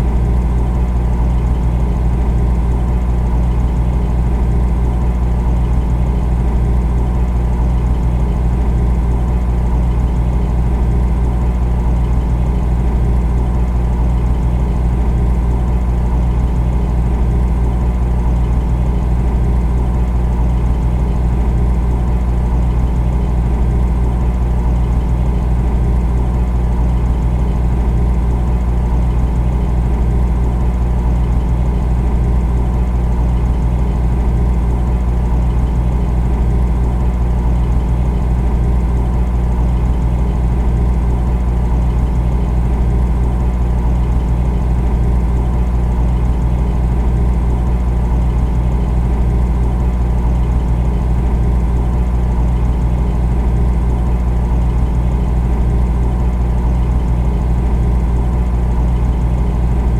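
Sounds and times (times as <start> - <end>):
refrigerator compressor hum: 0.0 - 59.9.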